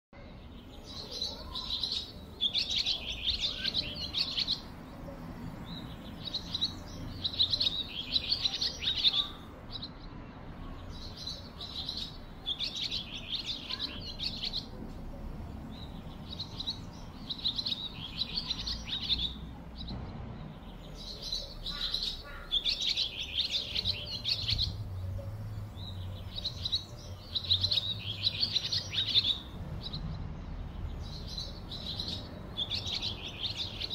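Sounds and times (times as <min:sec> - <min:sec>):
low steady background noise: 0:00.2 - 0:33.9
small birds chirping: 0:00.2 - 0:33.9.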